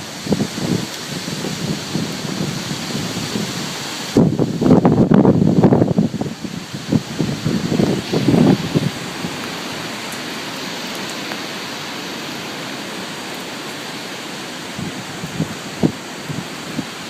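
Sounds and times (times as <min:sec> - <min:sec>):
storm wind and rain: 0:00.0 - 0:17.0
wind gusts buffeting microphone: 0:00.0 - 0:17.0.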